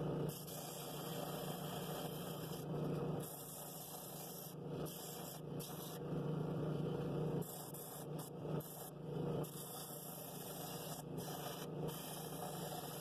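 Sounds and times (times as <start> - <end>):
drill press motor hum: 0.0 - 13.0.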